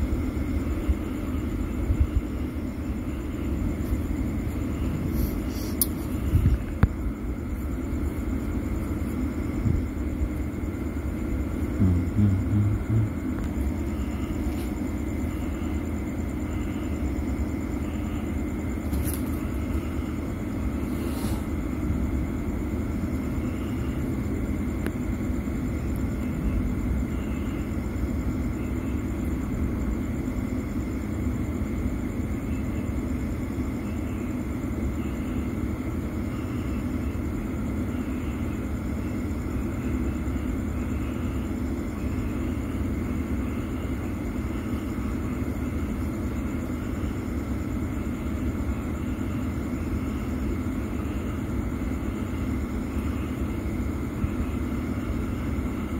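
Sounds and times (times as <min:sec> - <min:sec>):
low rumble and hum: 0:00.0 - 0:55.9.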